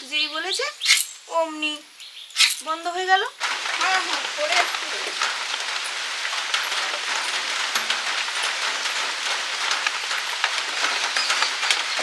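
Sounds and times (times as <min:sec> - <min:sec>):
rain falling on a pond: 0:00.0 - 0:12.0.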